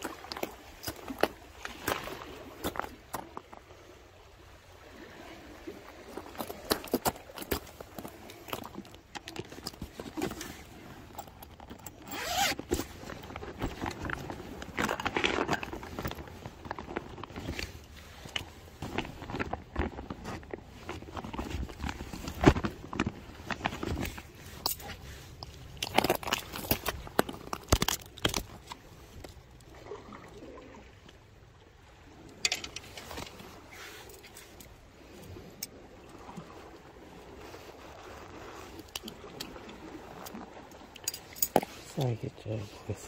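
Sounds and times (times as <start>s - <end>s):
fishing gear and bag rustling: 0.0s - 43.0s.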